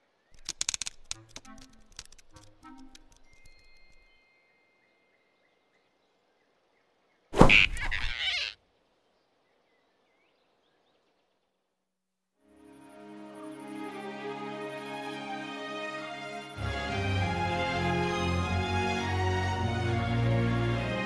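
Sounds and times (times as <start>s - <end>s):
faint forest background: 0.0s - 21.0s.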